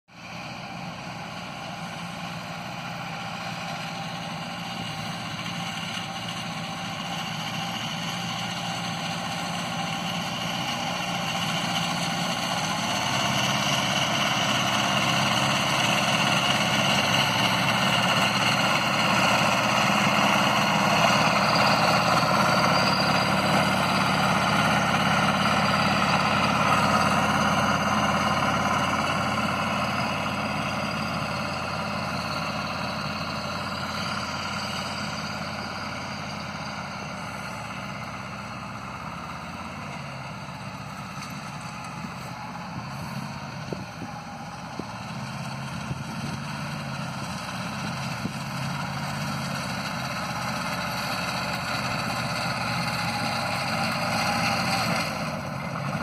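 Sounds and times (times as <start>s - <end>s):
tractor engine running: 0.1s - 56.0s.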